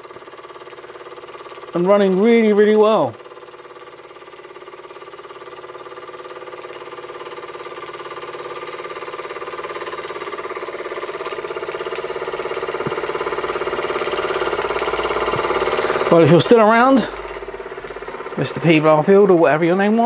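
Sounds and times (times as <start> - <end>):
model steam engine pulsing: 0.0 - 20.0.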